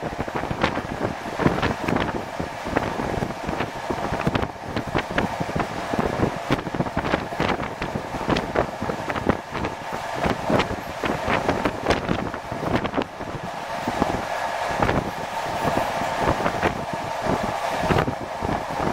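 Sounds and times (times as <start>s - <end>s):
wheel and track running noise: 0.0s - 18.9s
wind rushing: 0.0s - 18.9s.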